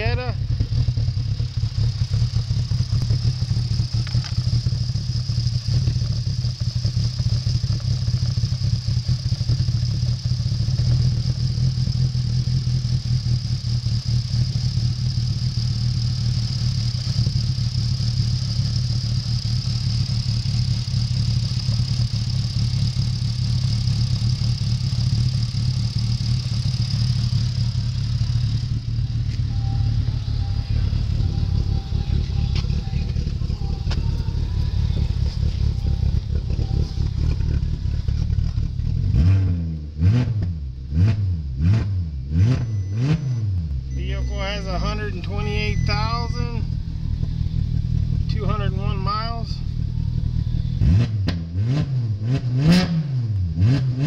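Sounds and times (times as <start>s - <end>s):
car engine idling: 0.0s - 41.6s, 42.2s - 51.4s.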